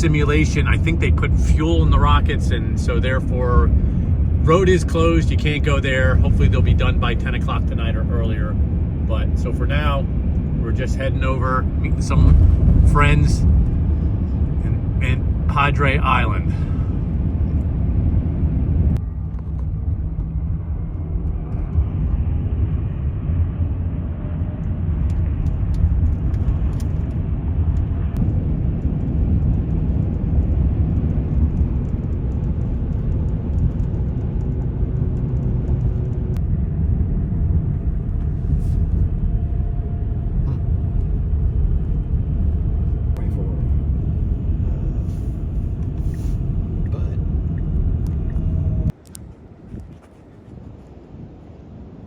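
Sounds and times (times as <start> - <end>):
tyre and road noise: 0.0 - 52.0.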